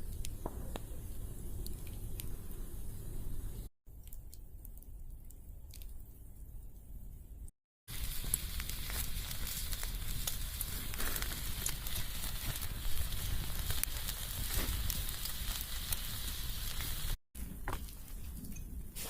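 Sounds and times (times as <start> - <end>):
wood fire crackling and popping: 0.0 - 6.0, 7.9 - 19.0.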